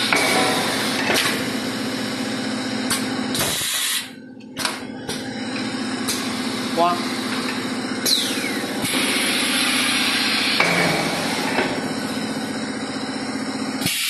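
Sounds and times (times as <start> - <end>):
machine mechanical drone: 0.0 - 14.0.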